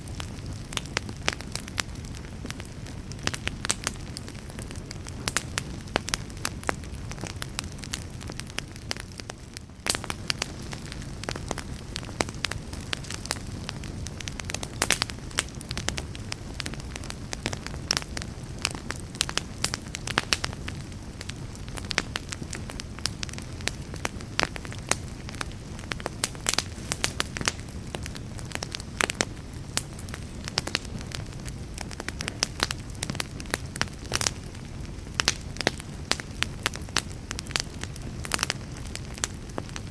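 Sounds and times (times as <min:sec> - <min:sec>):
burning wood crackling: 0:00.0 - 0:39.9
rumble of flames: 0:00.0 - 0:39.9.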